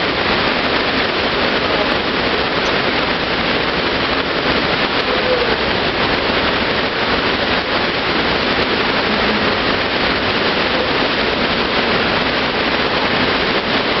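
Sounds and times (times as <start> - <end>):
rushing water on surf ride: 0.0 - 14.0.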